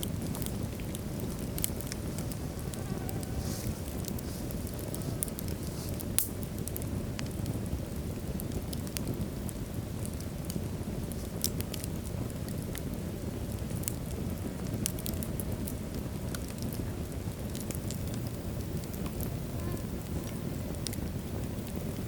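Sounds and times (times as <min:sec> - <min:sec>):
fire rumbling: 0:00.0 - 0:22.0
wood crackling and popping: 0:00.0 - 0:22.0.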